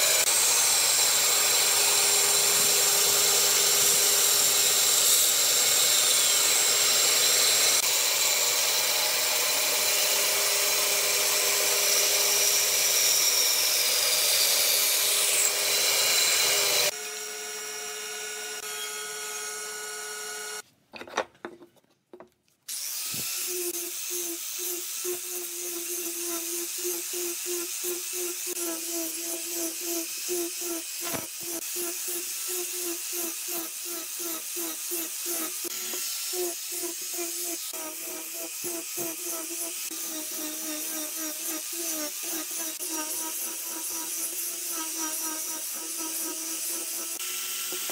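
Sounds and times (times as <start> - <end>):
angle grinder sanding wood: 0.0 - 17.0, 22.7 - 47.9
band saw cutting wood: 0.0 - 20.6, 22.7 - 47.9.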